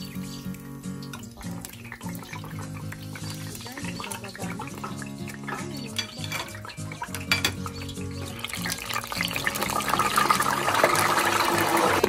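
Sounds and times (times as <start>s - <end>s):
background music: 0.0s - 12.0s
oil sizzling and bubbling: 0.0s - 12.0s.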